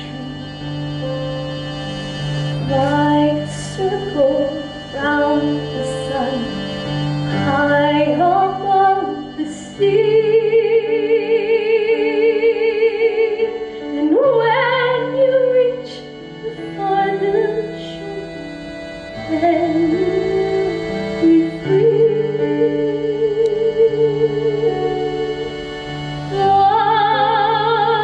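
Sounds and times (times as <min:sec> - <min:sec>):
instrumental accompaniment: 0:00.0 - 0:28.0
woman singing with vibrato: 0:02.6 - 0:06.6, 0:07.4 - 0:18.4, 0:19.3 - 0:25.6, 0:26.3 - 0:28.0.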